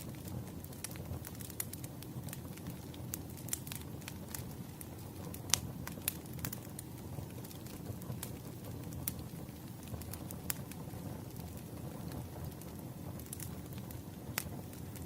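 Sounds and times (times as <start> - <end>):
burning logs crackling and popping: 0.0 - 15.0
rumble of flames: 0.0 - 15.0.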